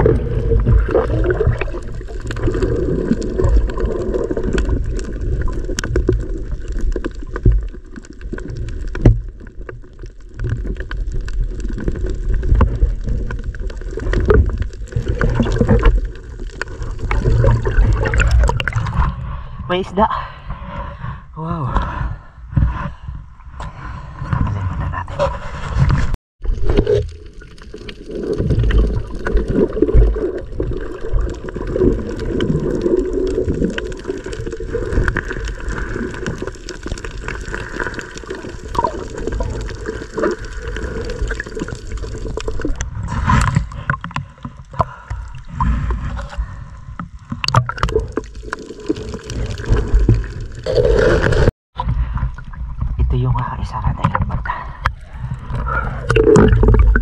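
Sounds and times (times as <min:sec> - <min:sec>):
underwater water sloshing: 0:00.0 - 0:21.2, 0:22.5 - 0:57.0.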